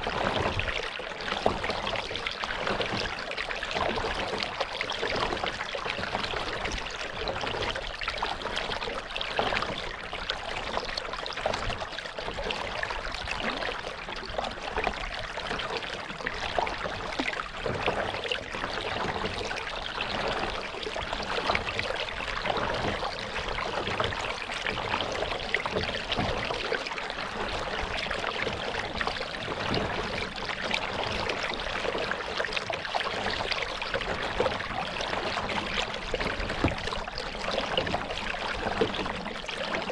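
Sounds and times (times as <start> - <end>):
paddle splashes and drips: 0.0 - 39.9
water splashing around a kayak: 0.0 - 39.9.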